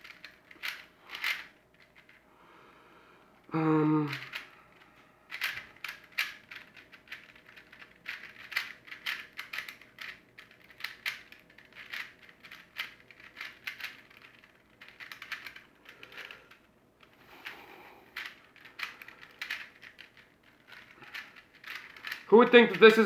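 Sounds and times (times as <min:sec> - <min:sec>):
puzzle cube plastic clicking: 0:00.0 - 0:02.2, 0:04.1 - 0:23.0.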